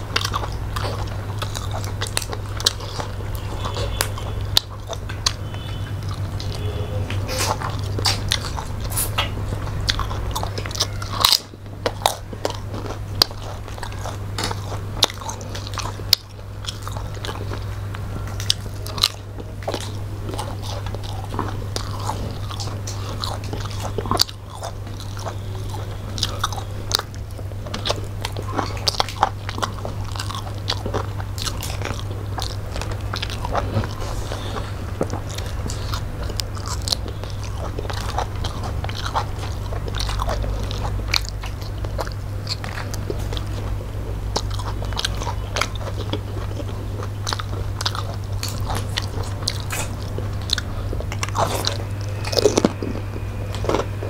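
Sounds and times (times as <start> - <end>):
people chewing and crunching: 0.0 - 54.0
steady low hum: 0.0 - 54.0.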